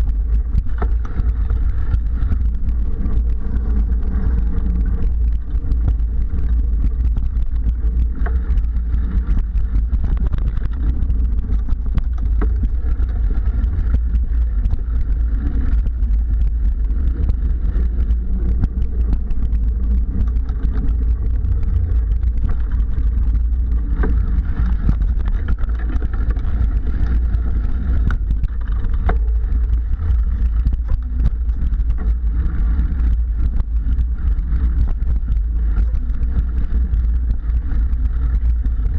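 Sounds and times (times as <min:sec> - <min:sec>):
bike clicks and rattles: 0:00.0 - 0:38.9
bike tyres rumbling on dirt: 0:00.0 - 0:38.9.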